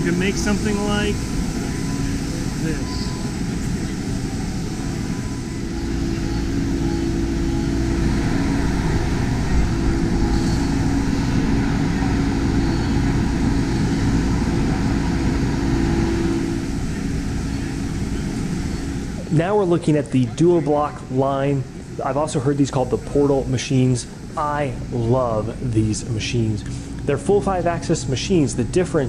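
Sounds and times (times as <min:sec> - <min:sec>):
milling machine drone: 0:00.0 - 0:29.0.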